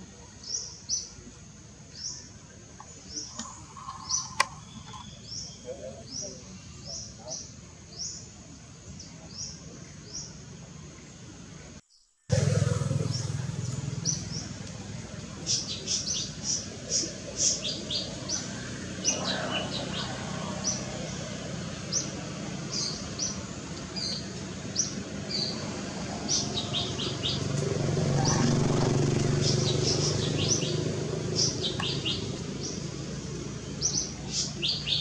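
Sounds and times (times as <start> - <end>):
birds chirping: 0.0 - 35.0
low background noise: 0.0 - 35.0.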